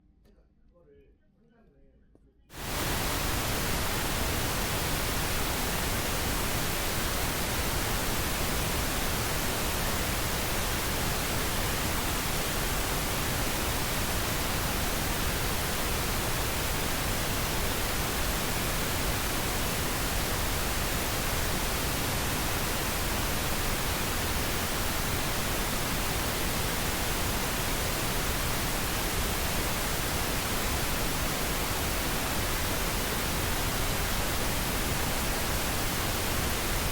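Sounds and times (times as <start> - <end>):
white noise hiss: 2.5 - 36.9.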